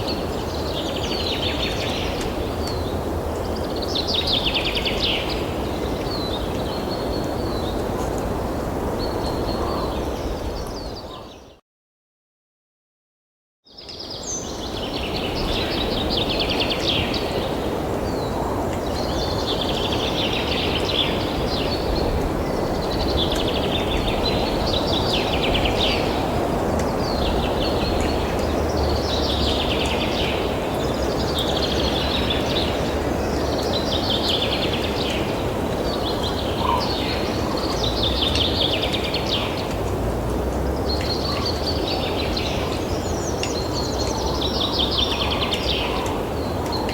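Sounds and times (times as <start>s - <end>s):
outdoor background noise: 0.0s - 11.5s, 13.8s - 46.9s.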